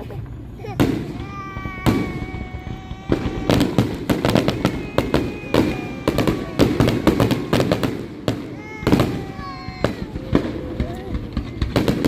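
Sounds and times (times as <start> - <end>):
firecrackers cracking and banging: 0.0 - 12.0.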